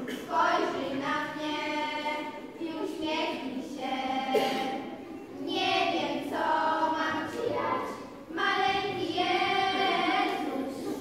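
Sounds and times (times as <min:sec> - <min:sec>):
girls singing together: 0:00.0 - 0:11.0.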